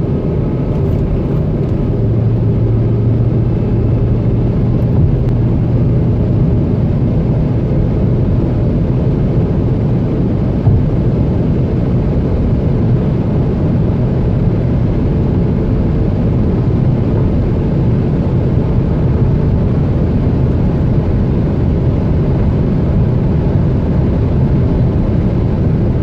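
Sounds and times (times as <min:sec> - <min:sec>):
diesel engine droning: 0:00.0 - 0:26.0
wind and road noise: 0:00.0 - 0:26.0.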